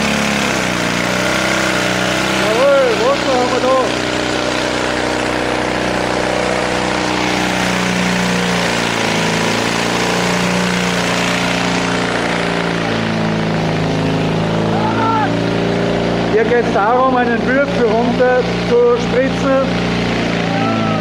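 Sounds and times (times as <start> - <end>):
fire pump engine running: 0.0 - 21.0.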